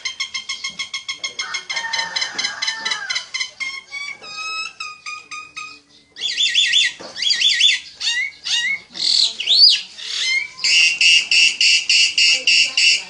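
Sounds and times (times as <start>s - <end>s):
bird chirping and whistling: 0.0s - 1.4s, 2.8s - 12.8s.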